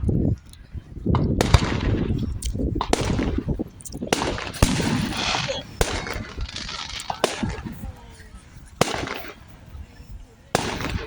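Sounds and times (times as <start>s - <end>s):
fireworks crackling: 0.6s - 11.0s
fireworks bangs: 1.0s - 11.0s.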